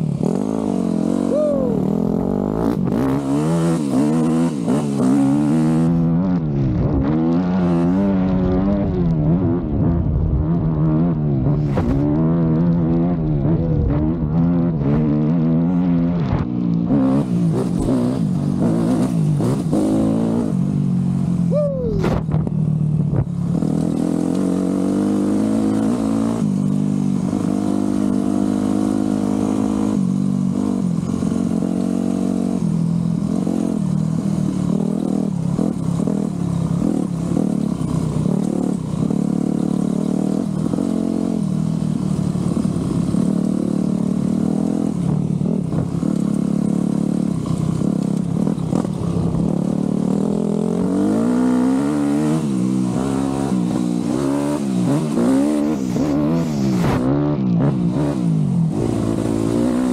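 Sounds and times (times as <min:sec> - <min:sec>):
two-stroke motocross bike revving: 0:00.0 - 0:59.9.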